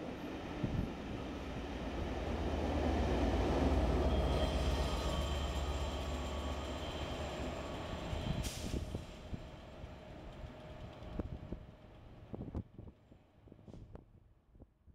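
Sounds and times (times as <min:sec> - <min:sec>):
passenger coaches rumbling past: 0:00.0 - 0:12.3
diesel locomotive droning: 0:00.0 - 0:12.5.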